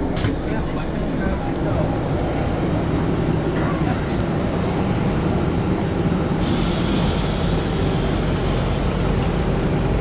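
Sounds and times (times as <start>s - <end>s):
loud engine rumble: 0.0s - 10.0s.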